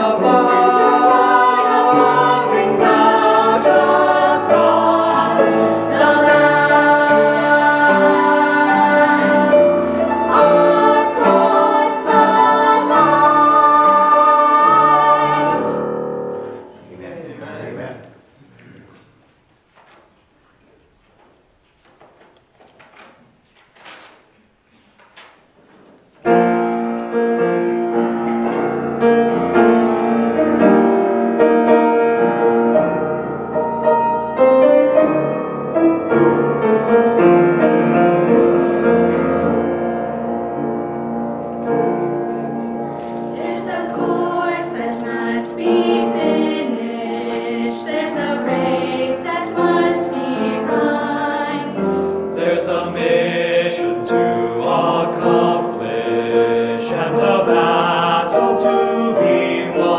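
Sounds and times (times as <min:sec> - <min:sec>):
mixed choir singing: 0:00.0 - 0:16.8, 0:27.1 - 0:59.9
piano playing hymn: 0:00.0 - 0:17.4, 0:25.2 - 0:59.9.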